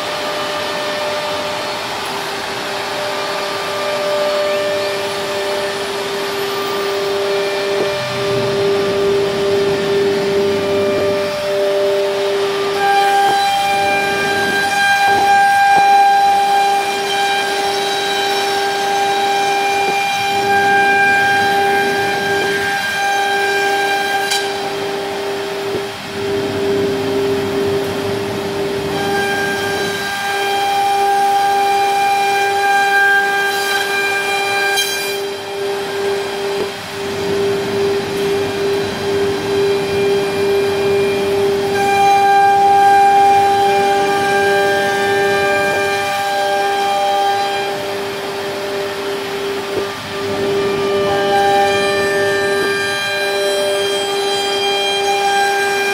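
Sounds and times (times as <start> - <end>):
high wood cutting tone: 0.0 - 55.9
router spindle whining: 0.0 - 55.9.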